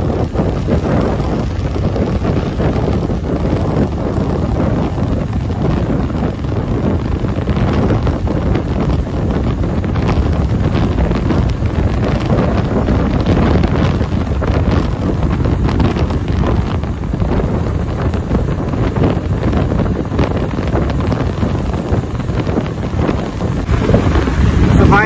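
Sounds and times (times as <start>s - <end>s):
motorcycle engine and road noise: 0.0s - 25.0s
wind buffeting microphone: 0.0s - 25.0s.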